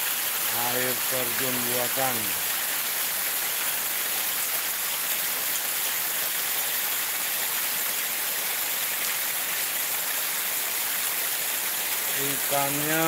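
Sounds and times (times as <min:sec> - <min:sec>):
rain falling: 0:00.0 - 0:13.0
water rushing down a channel: 0:00.0 - 0:13.0.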